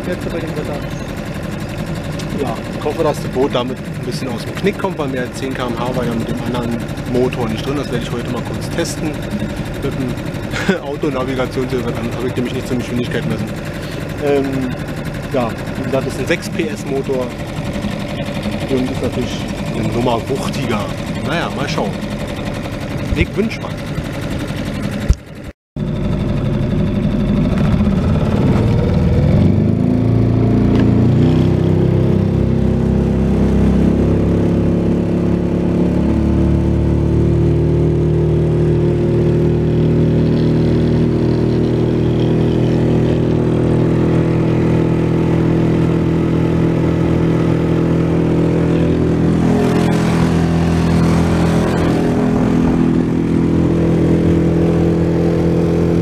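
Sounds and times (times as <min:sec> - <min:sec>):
outboard motor revving: 0:00.0 - 0:56.0.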